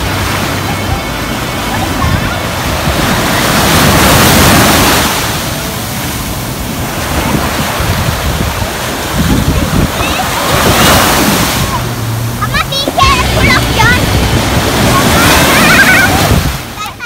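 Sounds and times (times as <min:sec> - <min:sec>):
wind noise on microphone: 0:00.0 - 0:16.8
waves breaking on sand: 0:00.0 - 0:17.0.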